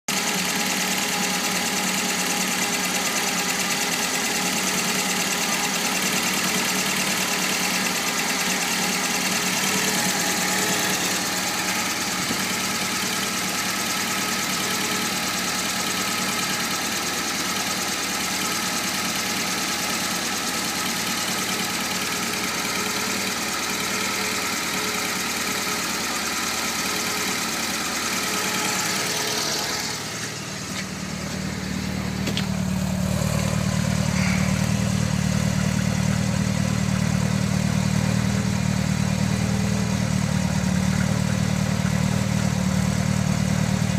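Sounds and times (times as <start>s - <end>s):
car engine idling: 0.1s - 43.9s.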